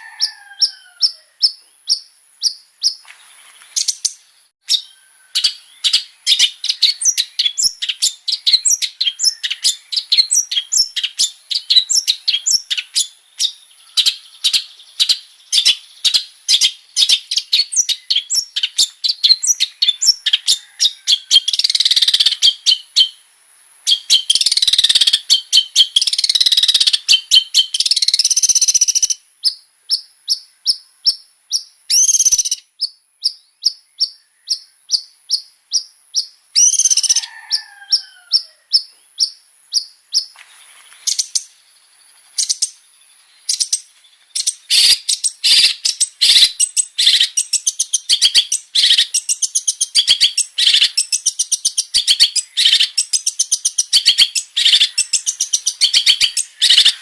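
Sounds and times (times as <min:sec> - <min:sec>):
bird singing and chattering: 0:00.0 - 0:23.2, 0:23.9 - 0:40.3, 0:41.0 - 0:41.5, 0:42.4 - 0:57.0.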